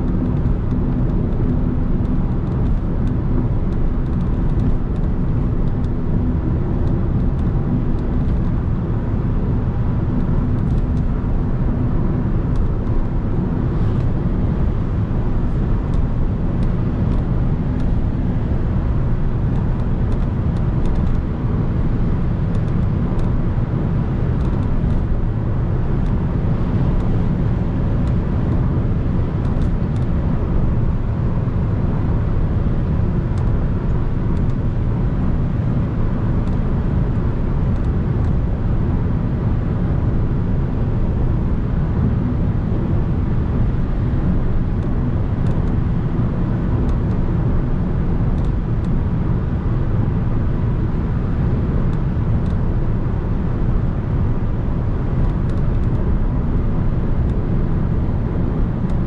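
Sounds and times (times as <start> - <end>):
low engine drone: 0.0 - 59.0
road tyre and wind noise: 0.0 - 59.0.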